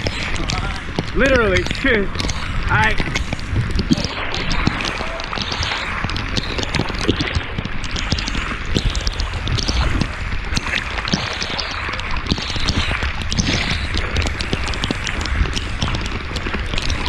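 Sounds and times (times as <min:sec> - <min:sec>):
heavy rain on water: 0:00.0 - 0:17.0
raindrops clicking close by: 0:00.0 - 0:17.0
wind rumbling on microphone: 0:00.0 - 0:17.0.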